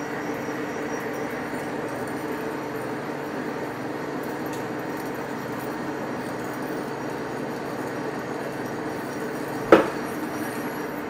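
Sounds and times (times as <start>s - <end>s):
lathe gear drive humming: 0.0s - 11.0s.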